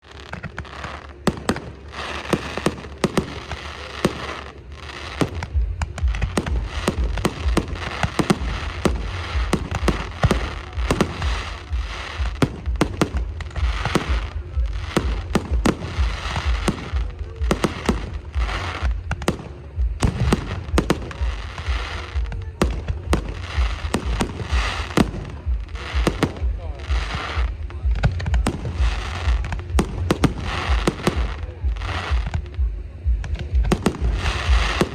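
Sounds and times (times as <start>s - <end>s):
fireworks bangs and pops: 0.0s - 34.9s
fireworks crackling: 0.0s - 34.9s.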